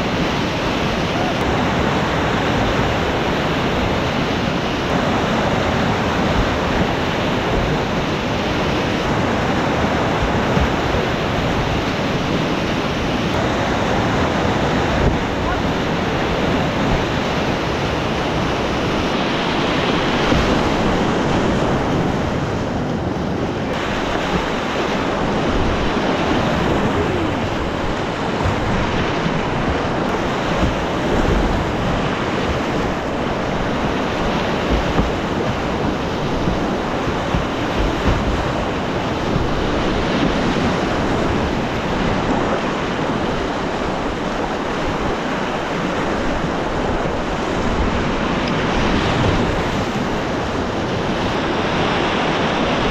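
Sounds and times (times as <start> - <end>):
whitewater rapids rushing: 0.0 - 52.9
wind buffeting microphone: 0.0 - 52.9.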